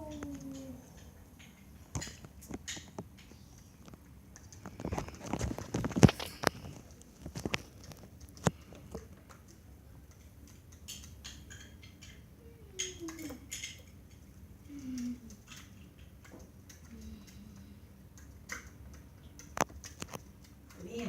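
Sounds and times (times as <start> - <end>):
parrots tapping and clicking: 0.0 - 21.0.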